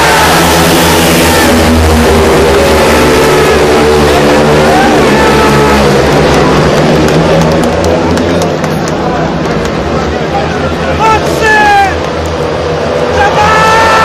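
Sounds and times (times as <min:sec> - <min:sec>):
motorcycle engines racing: 0:00.0 - 0:14.0.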